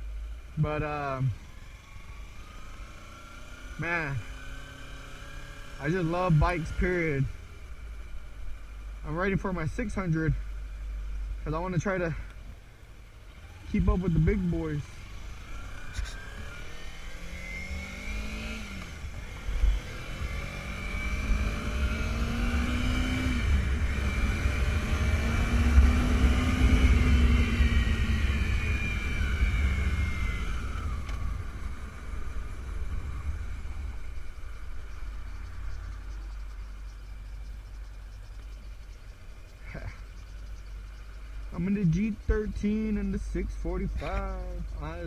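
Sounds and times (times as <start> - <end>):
motorcycle engine shifting gears: 1.4 - 45.0.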